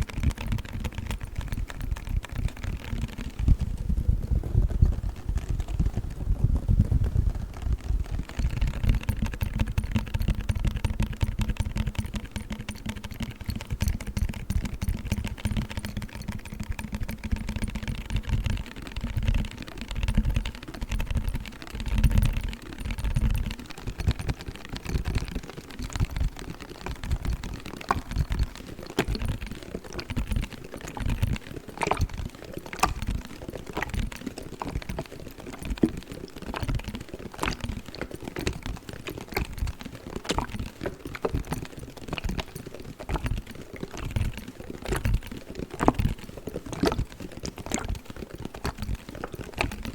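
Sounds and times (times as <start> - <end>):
clicks and taps on cold pack: 0.0 - 49.9.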